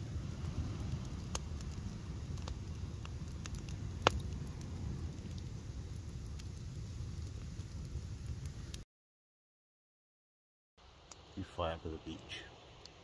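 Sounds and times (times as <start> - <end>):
campfire crackling and popping: 0.0 - 8.8, 10.8 - 13.0.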